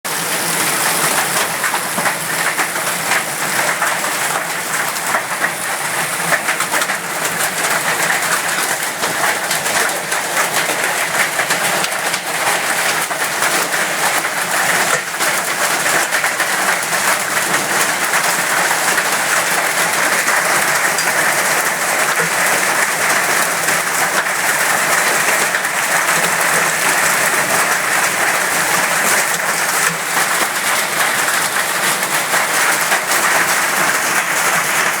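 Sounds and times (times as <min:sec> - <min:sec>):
hailstones pelting down: 0:00.1 - 0:35.0.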